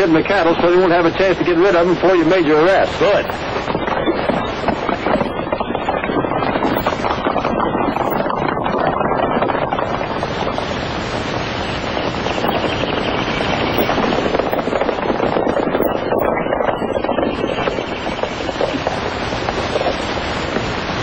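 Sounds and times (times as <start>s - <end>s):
horses galloping hoofbeats: 0.0s - 10.7s, 11.6s - 21.0s.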